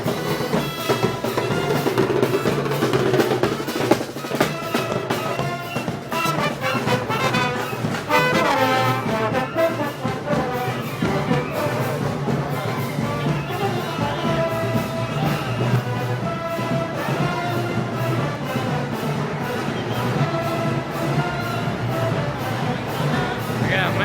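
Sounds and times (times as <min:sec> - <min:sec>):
brass band music: 0:00.0 - 0:24.0.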